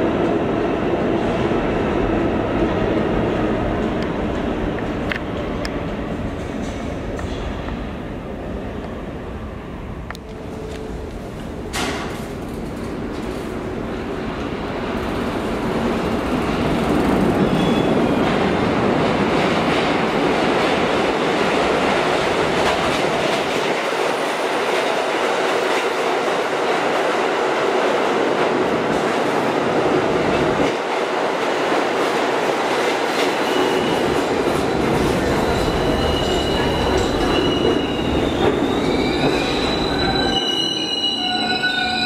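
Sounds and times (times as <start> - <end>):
subway train running on rails: 0.0 - 42.0.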